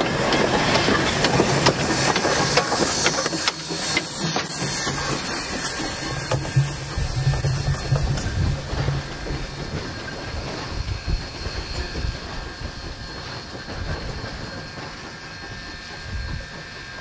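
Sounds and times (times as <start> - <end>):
steady steam rushing: 0.0 - 17.0
steam locomotive thumps: 0.0 - 17.0
wheels on rails: 0.0 - 17.0.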